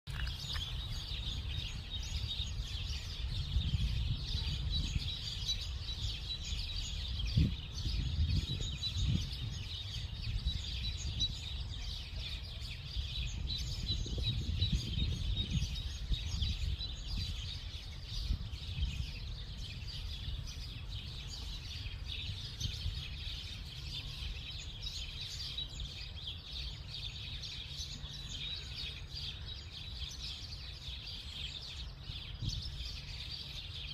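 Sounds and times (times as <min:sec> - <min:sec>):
low wind rumble on microphone: 0:00.1 - 0:33.9
small birds chirping: 0:00.1 - 0:33.9.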